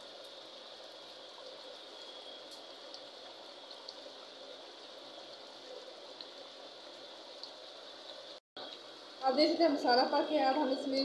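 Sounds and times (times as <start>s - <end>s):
gravy boiling and bubbling: 0.0s - 10.8s.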